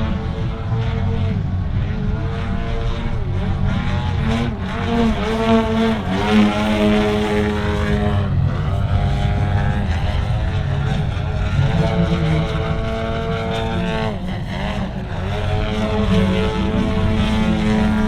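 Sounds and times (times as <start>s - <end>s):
model plane engine and propeller: 0.0s - 18.0s.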